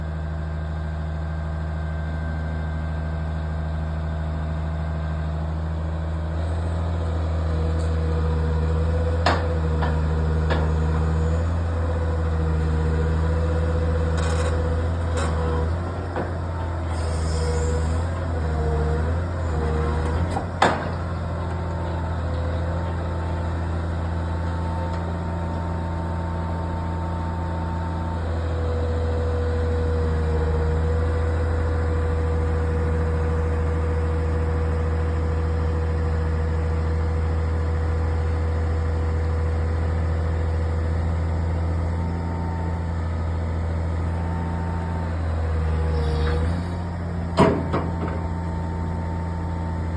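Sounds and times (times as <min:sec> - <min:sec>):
diesel excavator engine running: 0:00.0 - 0:49.9.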